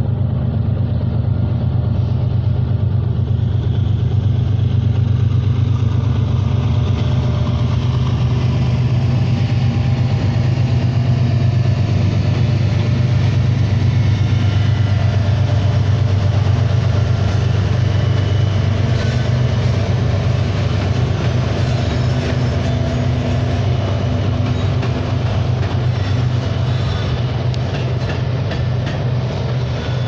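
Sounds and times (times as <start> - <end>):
diesel locomotives droning: 0.0 - 30.0.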